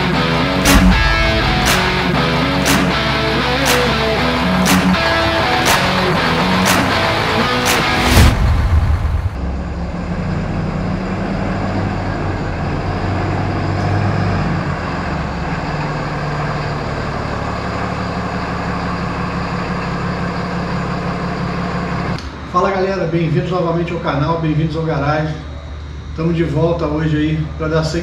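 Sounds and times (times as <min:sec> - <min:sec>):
diesel engine humming: 0:00.0 - 0:24.1.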